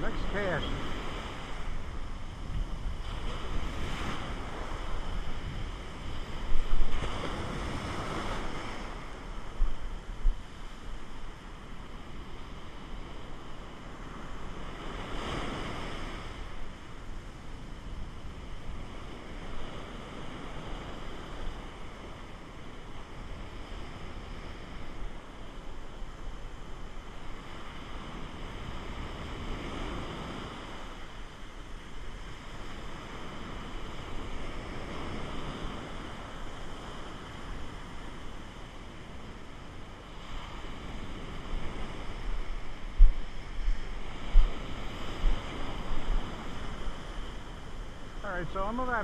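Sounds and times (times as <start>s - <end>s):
ocean surf washing up beach: 0.0s - 49.0s
wind rumble on microphone: 0.0s - 49.0s.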